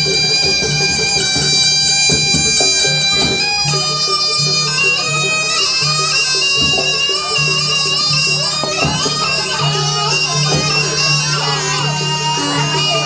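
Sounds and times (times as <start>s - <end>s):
shrill reedy shawm melody: 0.0s - 13.0s.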